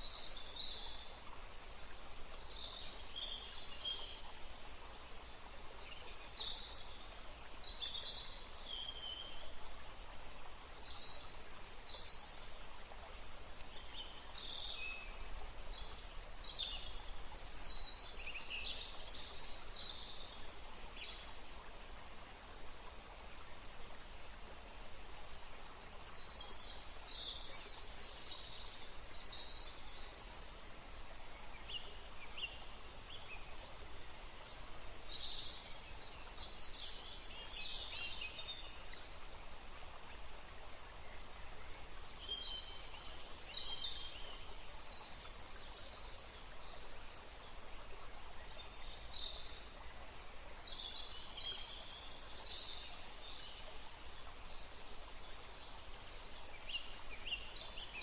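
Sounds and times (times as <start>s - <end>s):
songbirds chirping: 0.0s - 58.0s
steady background hiss: 0.0s - 58.0s.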